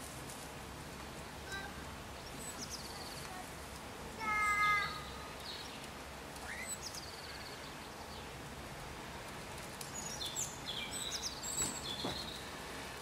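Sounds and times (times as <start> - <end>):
outdoor background hiss: 0.0 - 13.0
small birds chirping: 1.0 - 13.0.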